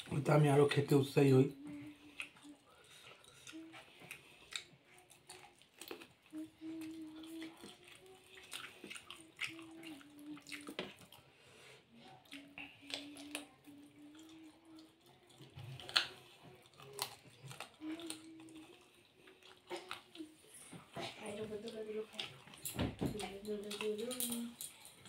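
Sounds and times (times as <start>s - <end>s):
wet chewing and mouth smacks: 2.0s - 11.3s, 12.0s - 25.0s.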